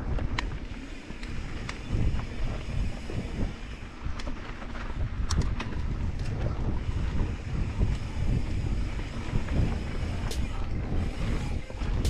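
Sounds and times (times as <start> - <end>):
bike clicks and rattles: 0.0 - 12.0
bike tyres rolling on dirt: 0.0 - 12.0
wind rumbling on microphone: 0.0 - 12.0.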